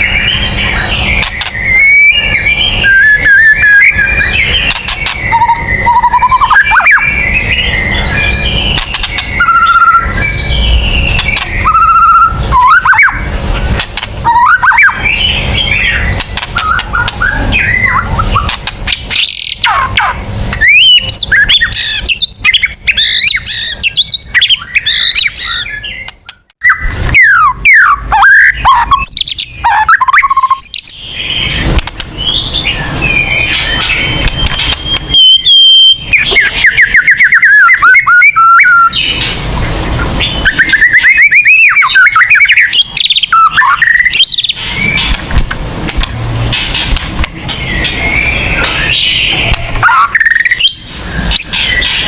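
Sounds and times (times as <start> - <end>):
bird singing whistled trills: 0.0 - 13.3, 14.2 - 19.9, 20.6 - 31.6, 32.2 - 39.2, 40.2 - 45.2, 47.6 - 52.0.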